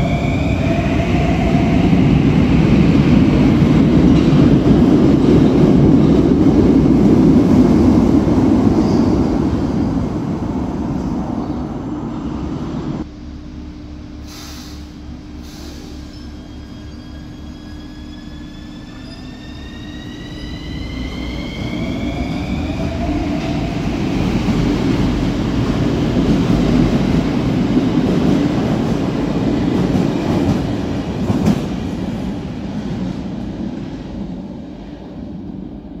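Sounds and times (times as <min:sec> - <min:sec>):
train wheels on rail: 0:00.0 - 0:13.1, 0:14.2 - 0:36.0.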